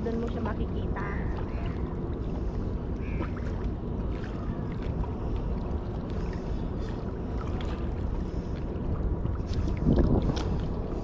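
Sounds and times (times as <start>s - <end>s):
water lapping against rocks: 0.0s - 11.0s
wind rumbling on microphone: 0.0s - 11.0s.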